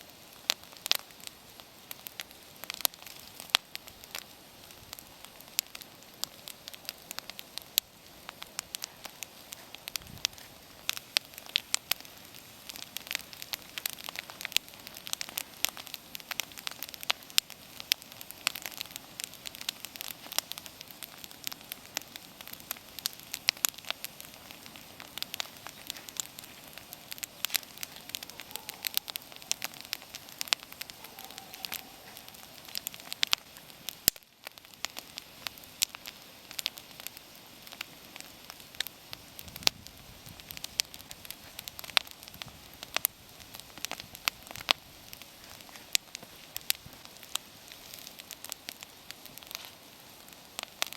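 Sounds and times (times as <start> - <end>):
bonfire crackling and popping: 0.0 - 50.9
flames hissing: 0.0 - 50.9.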